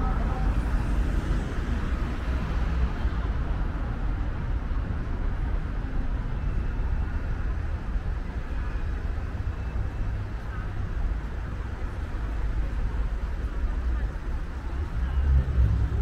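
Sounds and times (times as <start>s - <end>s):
cars passing on street: 0.0s - 16.0s.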